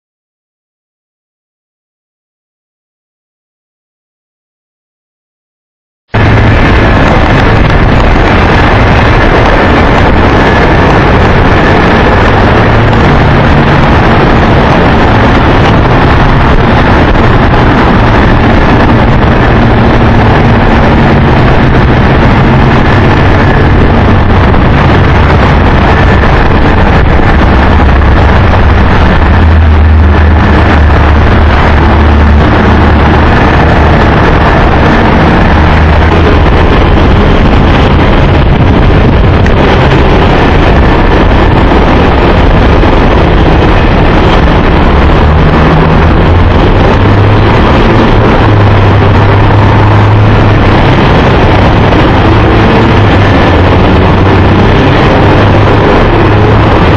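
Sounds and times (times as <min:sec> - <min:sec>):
jet engines running: 0:06.1 - 0:56.9
wind buffeting microphone: 0:06.1 - 0:56.9.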